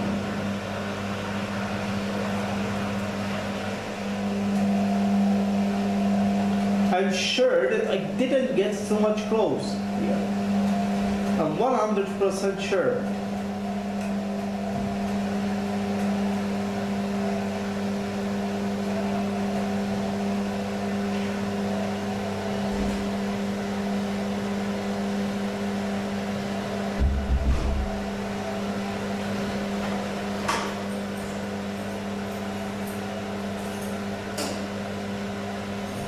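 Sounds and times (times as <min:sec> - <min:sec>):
washing machine motor humming: 0:00.0 - 0:36.0.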